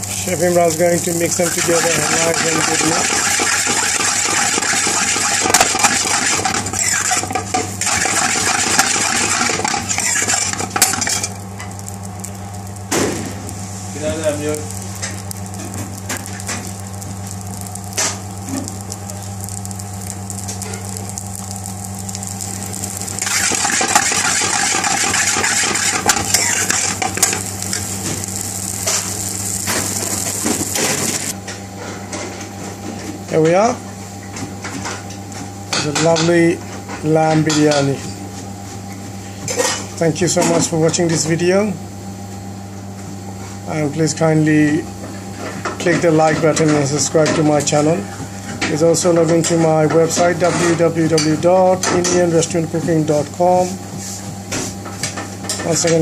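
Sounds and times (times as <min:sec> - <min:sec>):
rice sizzling in a metal pan: 0:00.0 - 0:31.5, 0:42.4 - 0:56.0
steady low hum: 0:00.0 - 0:55.9.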